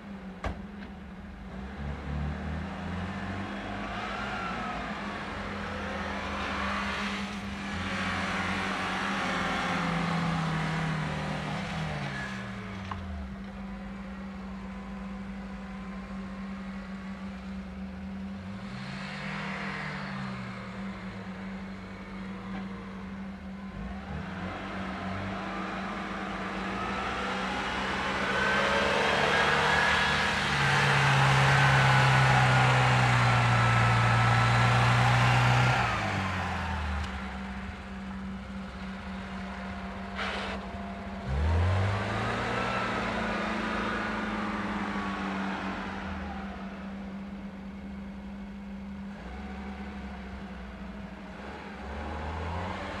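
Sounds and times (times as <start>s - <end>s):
off-road vehicle engines revving: 1.2s - 53.0s.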